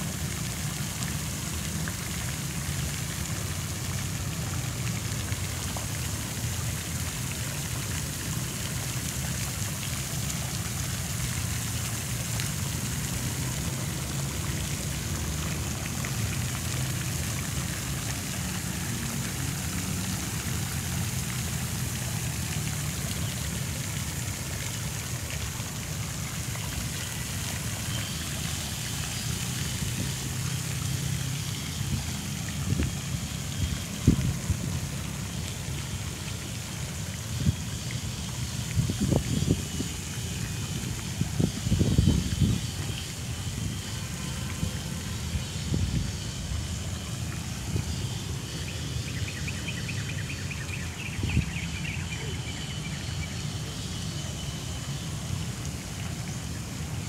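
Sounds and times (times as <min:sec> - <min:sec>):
fountain jets splashing into pond: 0:00.0 - 0:57.0.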